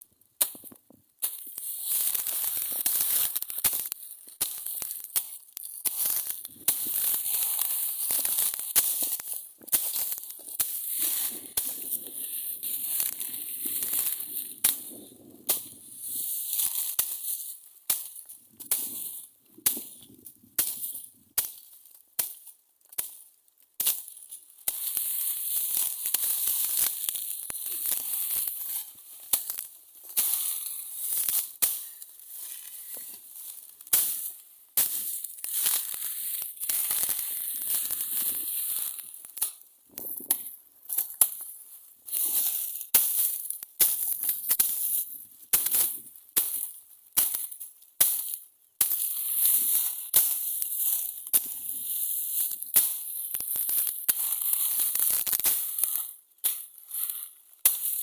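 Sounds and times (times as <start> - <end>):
dry crackling and rustling: 0.4 - 58.0.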